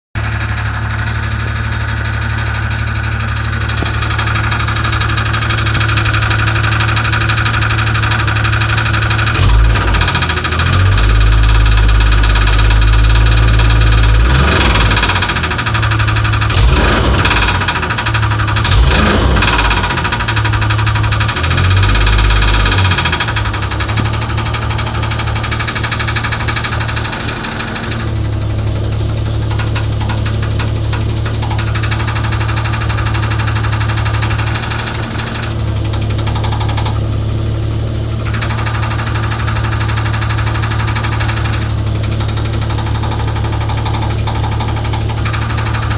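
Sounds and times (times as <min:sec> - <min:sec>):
car engine knocking and revving: 0:00.2 - 0:45.9.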